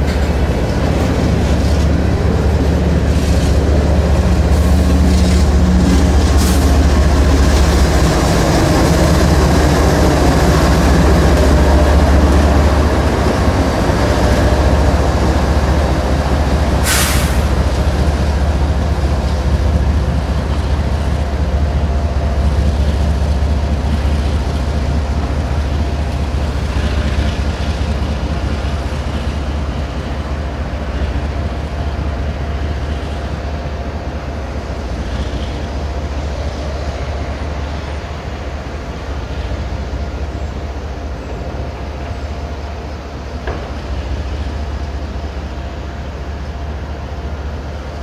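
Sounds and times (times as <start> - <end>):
locomotive engine rumble: 0.0 - 48.0
train wheel noise: 0.0 - 48.0.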